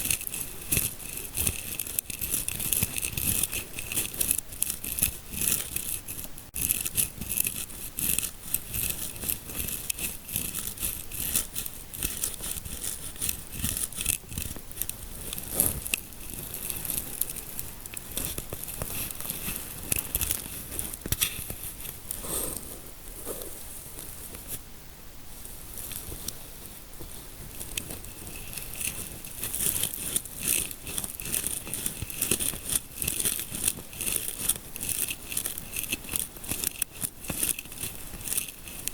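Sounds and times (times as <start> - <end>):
fingertips scratching scalp: 0.0 - 24.6, 27.0 - 38.9.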